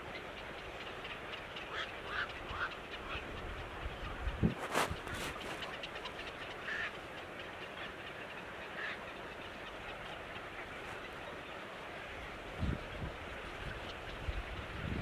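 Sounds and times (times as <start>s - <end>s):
birds calling: 0.0s - 14.6s
steady background hiss: 0.0s - 15.0s.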